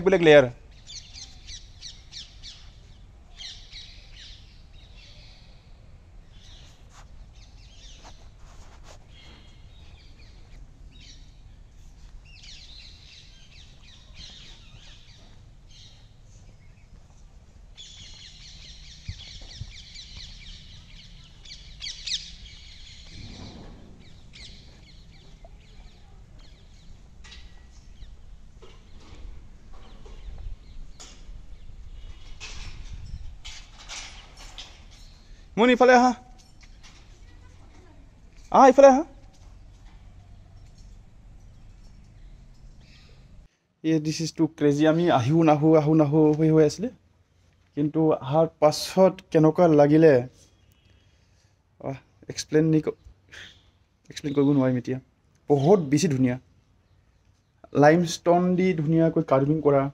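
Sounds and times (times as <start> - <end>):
birds chirping: 0.0 - 43.6, 44.8 - 51.5, 52.4 - 59.9.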